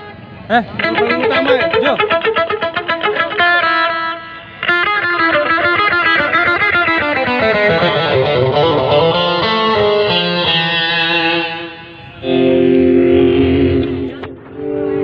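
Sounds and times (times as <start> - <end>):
electric guitar music over loudspeakers: 0.0 - 15.0.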